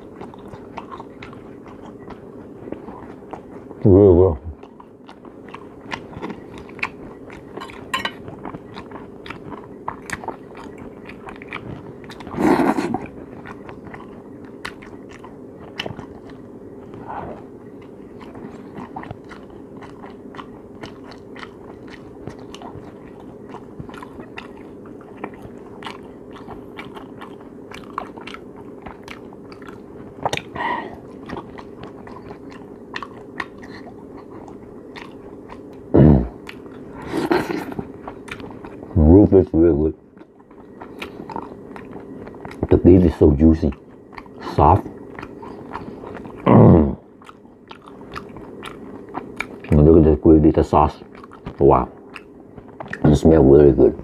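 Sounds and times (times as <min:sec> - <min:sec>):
chewing crisp toast: 0:00.0 - 0:39.4, 0:40.0 - 0:50.0, 0:50.7 - 0:54.0.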